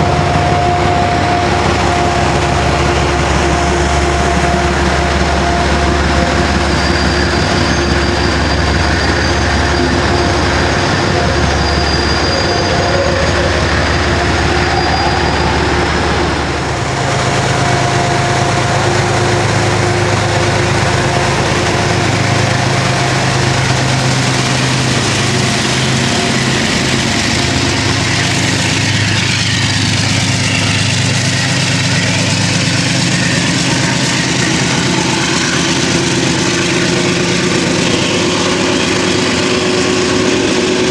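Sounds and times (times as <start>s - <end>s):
diesel locomotive engine running: 0.0s - 40.9s.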